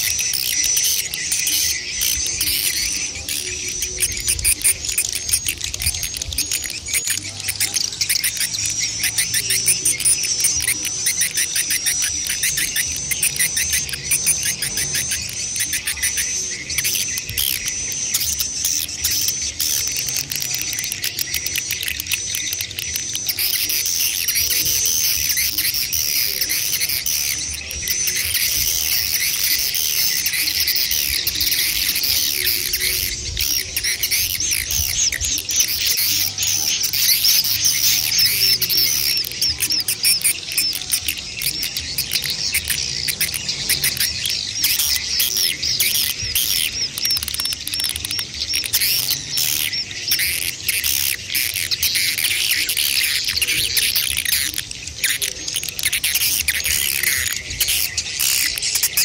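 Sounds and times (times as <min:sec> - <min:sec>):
swiftlets chirping and twittering: 0:00.0 - 0:59.0.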